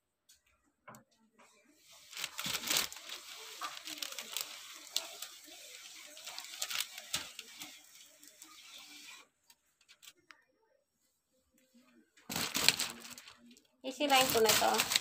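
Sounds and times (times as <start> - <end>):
soft rustling and handling noise: 0.2 - 15.0.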